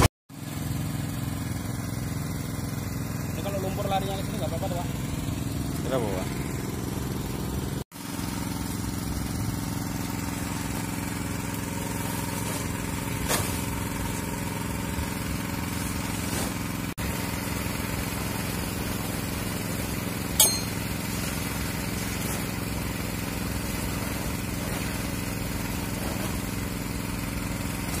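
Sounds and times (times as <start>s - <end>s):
drilling machine engine running: 0.6s - 28.0s.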